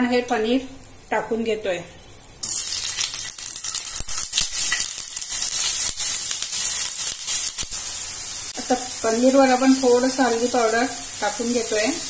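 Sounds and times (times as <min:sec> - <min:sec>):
cheese frying in hot oil: 0:02.3 - 0:12.0.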